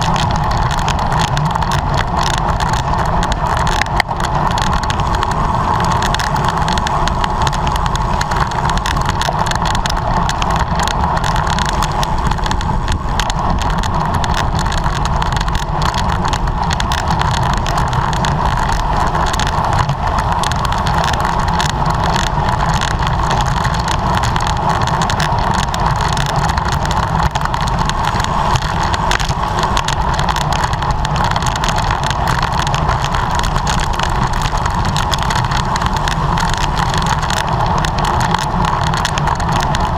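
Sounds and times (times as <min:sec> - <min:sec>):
wind and road rush: 0:00.0 - 0:39.9.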